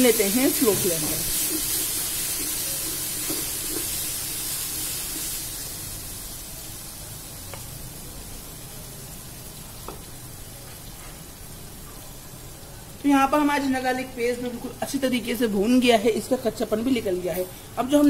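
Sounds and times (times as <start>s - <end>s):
oil sizzling in a pot: 0.0s - 18.0s.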